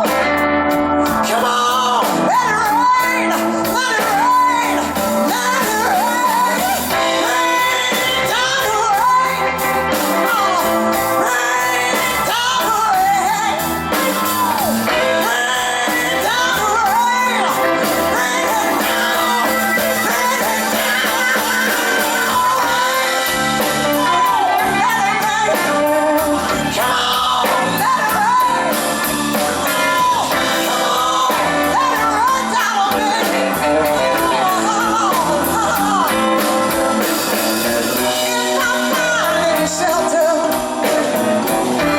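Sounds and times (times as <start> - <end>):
blues band playing: 0.0 - 41.9
woman singing: 0.0 - 41.9.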